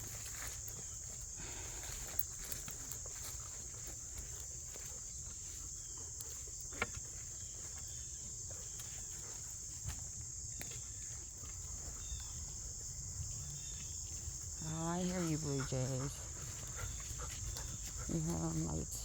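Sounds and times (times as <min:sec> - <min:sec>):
footsteps on a trail: 0:00.0 - 0:19.0
insect chorus drone: 0:00.0 - 0:19.0.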